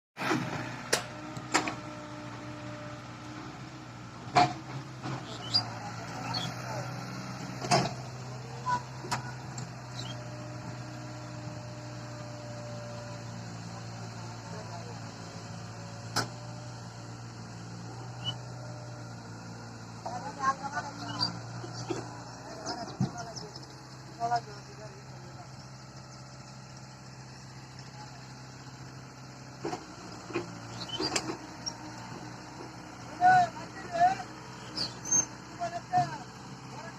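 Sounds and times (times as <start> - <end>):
tractor diesel engine running: 0.2 - 36.9
voices: 1.2 - 36.9.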